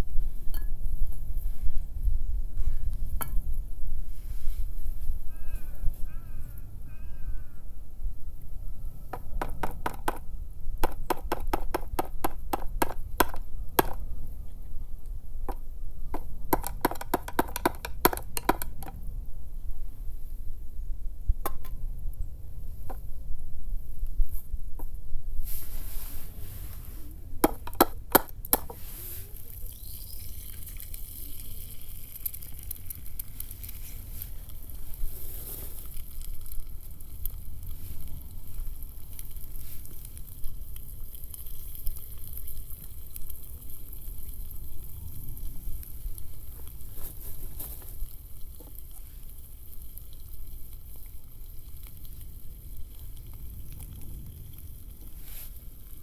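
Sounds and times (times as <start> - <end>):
campfire sizzling and crackling: 0.0 - 56.0.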